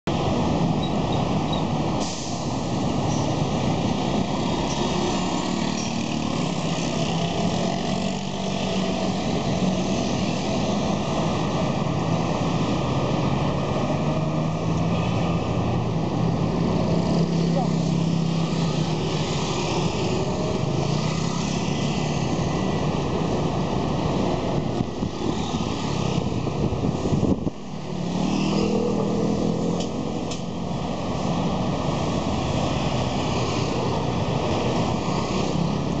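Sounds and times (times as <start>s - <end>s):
street traffic engines droning: 0.0s - 36.0s.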